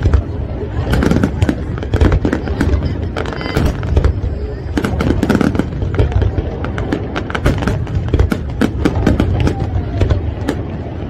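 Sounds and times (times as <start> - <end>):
continuous low rumble: 0.0 - 11.0
firework bangs and crackles: 0.0 - 11.0.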